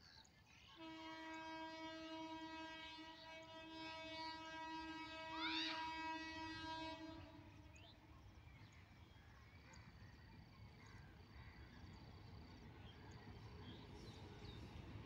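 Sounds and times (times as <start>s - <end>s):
train approaching rumble: 0.8s - 15.0s.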